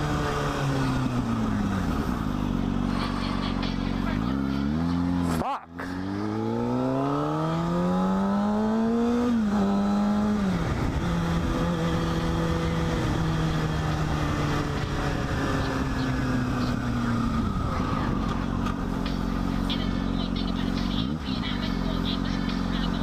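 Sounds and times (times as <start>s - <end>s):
motorcycle engine accelerating: 0.0s - 23.0s
wind and road noise: 0.0s - 23.0s.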